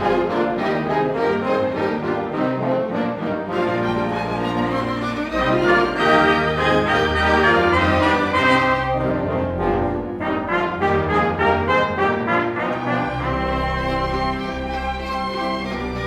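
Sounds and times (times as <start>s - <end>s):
brass carrying the tune: 0.0s - 16.0s
orchestra playing: 0.0s - 16.0s.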